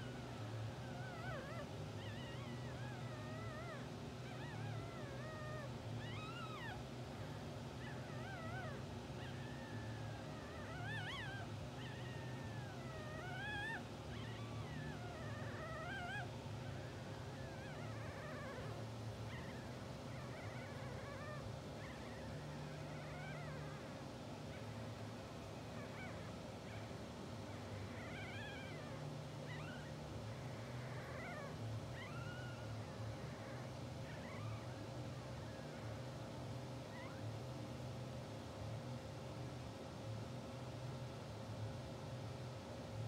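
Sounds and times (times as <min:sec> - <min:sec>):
puppies squeaking and whimpering: 0:00.0 - 0:37.7
steady low hum: 0:00.0 - 0:43.0.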